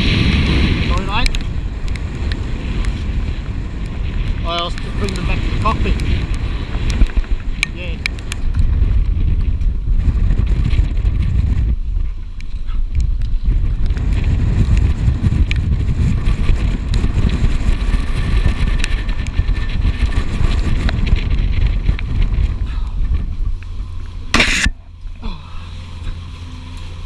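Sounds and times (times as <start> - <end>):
boat engine low rumble: 0.0 - 27.0
wind noise: 0.0 - 27.0.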